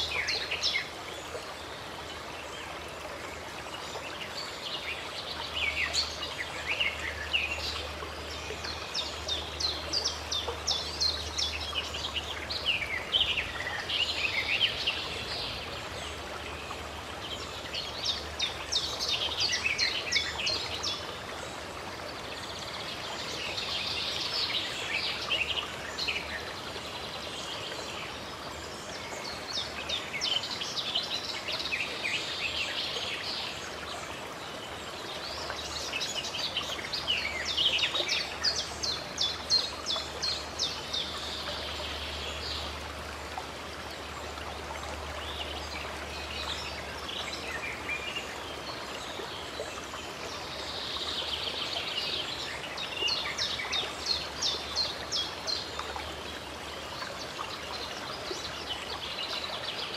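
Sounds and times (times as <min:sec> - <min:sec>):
running water: 0:00.0 - 0:59.9
songbirds chirping: 0:00.0 - 0:59.9.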